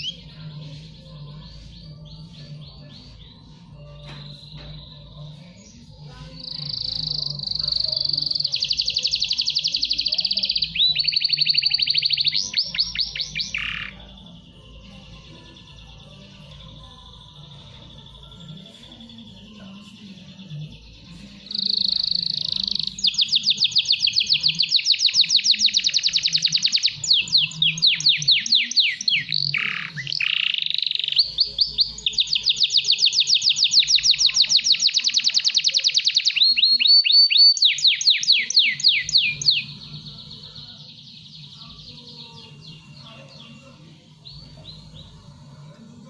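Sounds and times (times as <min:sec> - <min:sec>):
canary singing rolling trills: 0:00.0 - 0:46.0.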